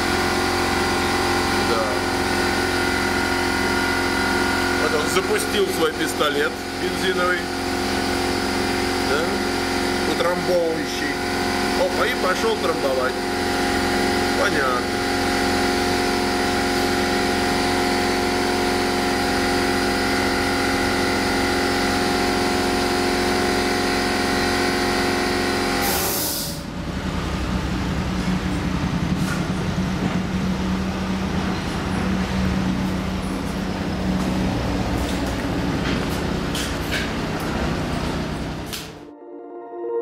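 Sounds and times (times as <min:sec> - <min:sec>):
tamping rammer engine running: 0:00.0 - 0:39.0.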